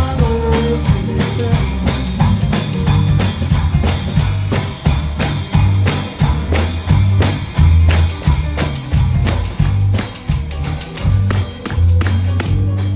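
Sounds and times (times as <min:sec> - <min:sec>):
drum kit beat: 0:00.0 - 0:12.9
heavy bass line: 0:00.0 - 0:12.9
live gospel band playing: 0:00.0 - 0:12.9.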